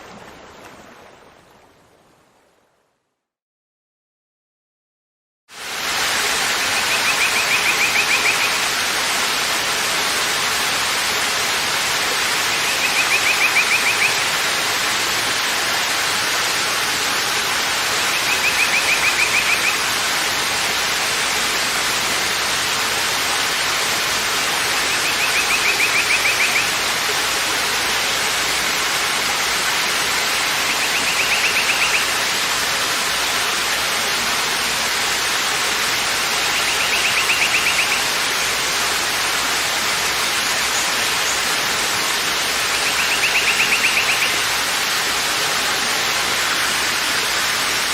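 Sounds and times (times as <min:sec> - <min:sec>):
waterfall rushing: 0:05.5 - 0:47.9.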